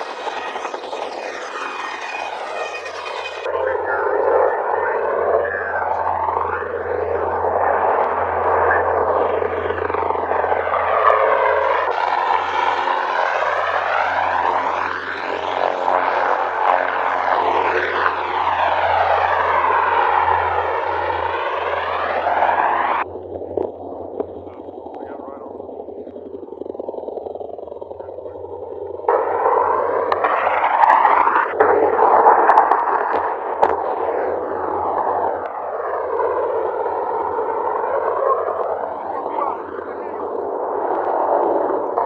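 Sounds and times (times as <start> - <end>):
helicopter flying past: 0.0 - 42.0.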